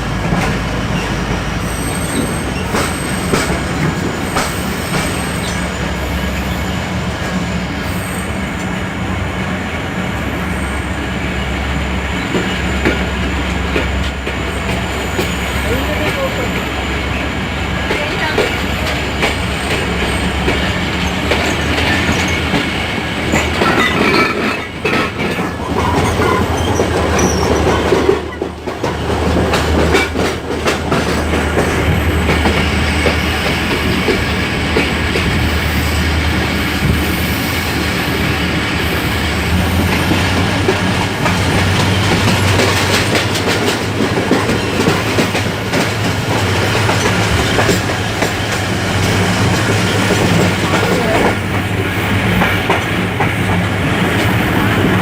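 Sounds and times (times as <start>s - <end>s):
train wheels clacking over rail joints: 0.0s - 6.5s, 12.2s - 55.0s
train coaches rumbling and rattling: 0.0s - 55.0s.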